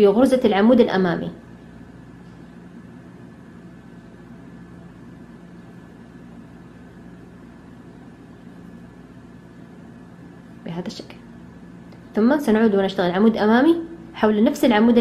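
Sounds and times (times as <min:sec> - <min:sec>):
steady background hum and hiss: 0:00.0 - 0:15.0.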